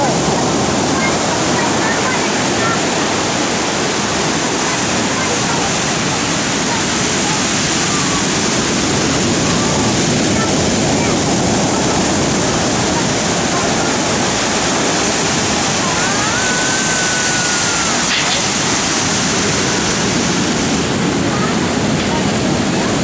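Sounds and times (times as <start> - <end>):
heavy waves breaking: 0.0 - 23.0.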